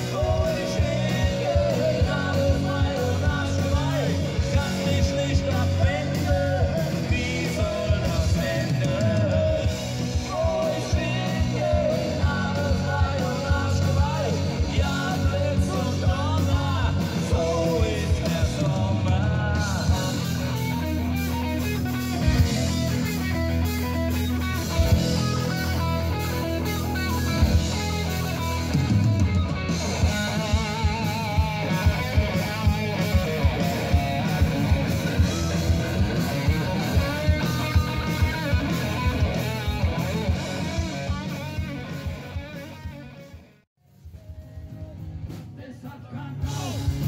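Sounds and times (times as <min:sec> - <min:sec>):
bass guitar: 0:00.0 - 0:47.0
electric guitar: 0:00.0 - 0:47.0.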